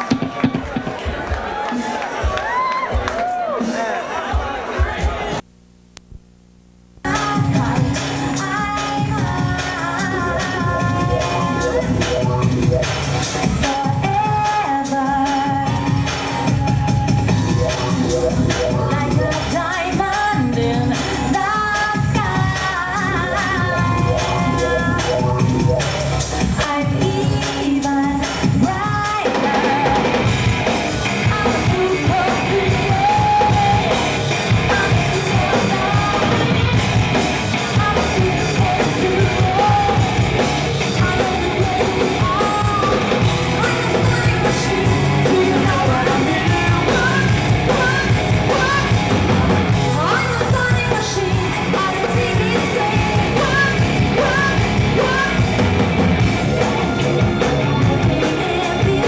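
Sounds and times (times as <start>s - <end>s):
drums: 0.0s - 59.0s
rock music with singer: 7.0s - 59.0s.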